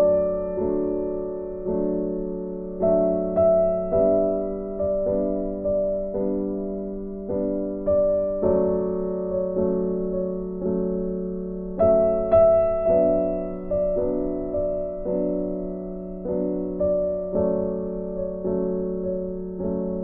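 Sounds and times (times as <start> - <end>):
gentle instrumental music: 0.0 - 20.0.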